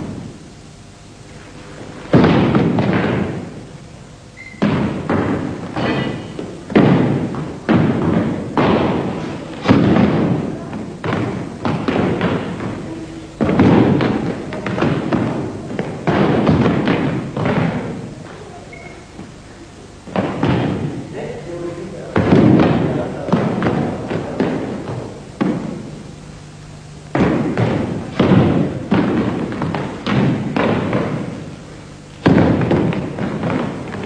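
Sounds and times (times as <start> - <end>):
foot stamps on floor: 4.4 - 21.1, 22.1 - 34.0
hall echo: 4.5 - 34.0.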